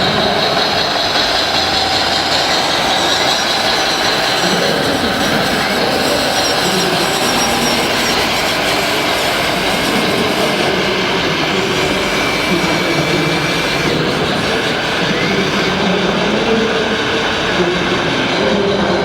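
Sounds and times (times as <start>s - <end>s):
model hydraulic pumps whining: 0.0s - 19.0s
thin high whine: 0.0s - 19.0s.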